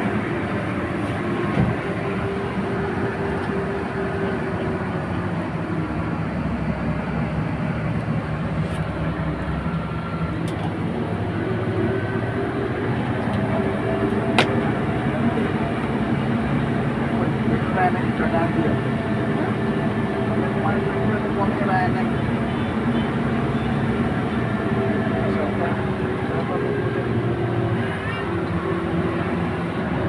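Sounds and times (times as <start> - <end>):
bus engine hum: 0.0 - 30.0
road rumble: 0.0 - 30.0.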